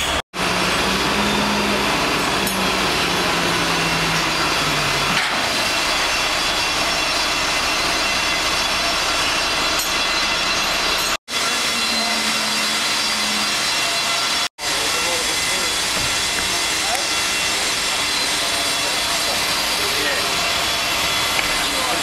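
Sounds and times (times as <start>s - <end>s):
crane engine hum: 0.0s - 22.0s.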